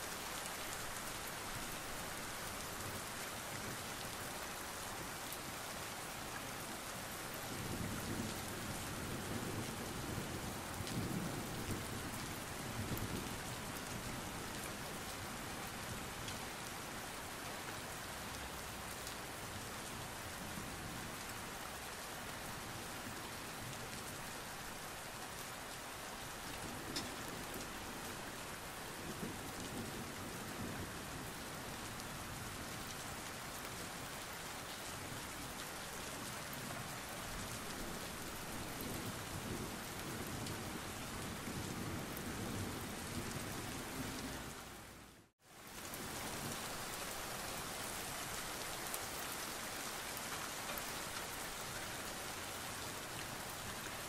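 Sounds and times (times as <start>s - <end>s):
rain on a hard street: 0.0s - 54.0s.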